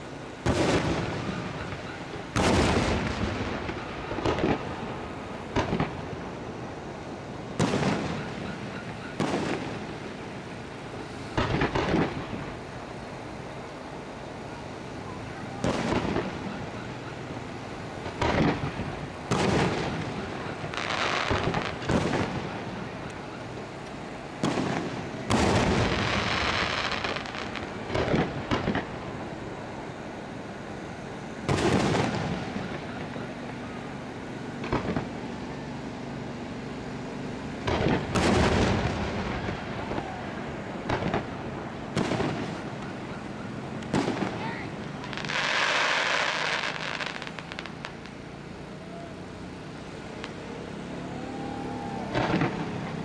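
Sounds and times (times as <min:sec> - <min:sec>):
firework crackling: 0:00.0 - 0:53.0
firework shells bursting: 0:00.4 - 0:06.6, 0:07.4 - 0:14.1, 0:15.4 - 0:30.0, 0:31.3 - 0:35.4, 0:37.6 - 0:48.3, 0:52.0 - 0:53.0.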